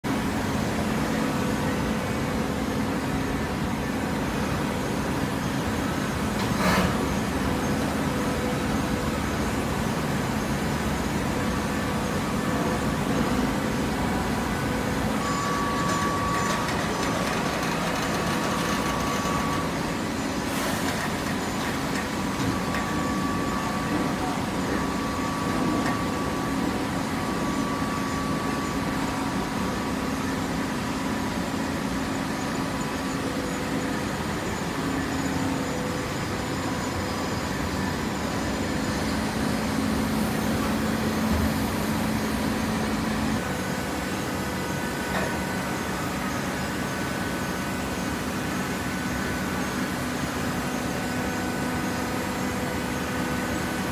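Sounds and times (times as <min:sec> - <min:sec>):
hydraulic baler humming: 0:00.1 - 0:53.9.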